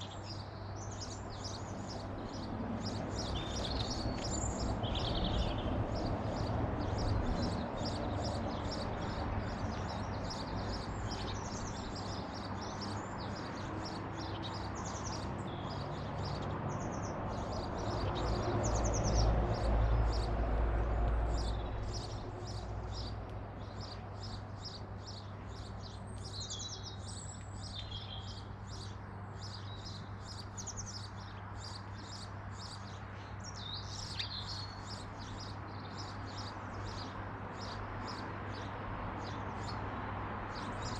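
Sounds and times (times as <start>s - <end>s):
small birds chirping and singing: 0.0s - 40.9s.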